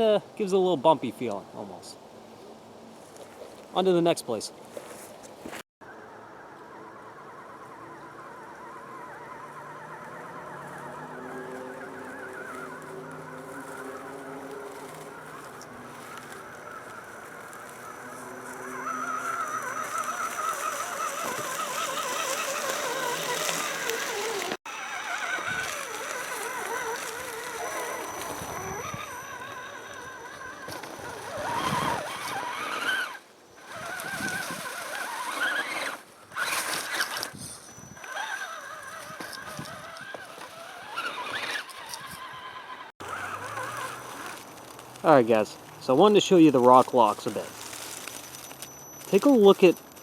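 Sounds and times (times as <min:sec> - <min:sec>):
rc car electric motor whining: 0:06.2 - 0:45.2, 0:46.6 - 0:50.0.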